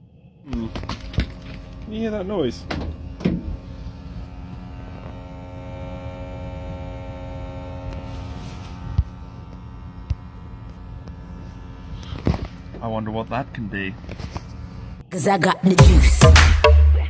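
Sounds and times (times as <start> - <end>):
vibrator buzzing: 0.5 - 15.0.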